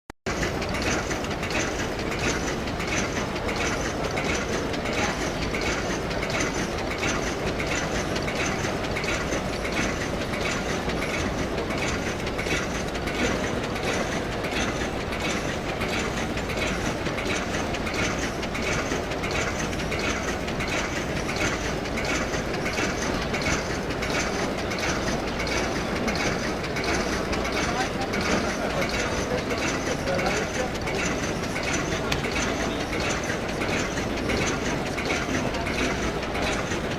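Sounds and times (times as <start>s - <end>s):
packing machine clattering: 0.3s - 36.9s.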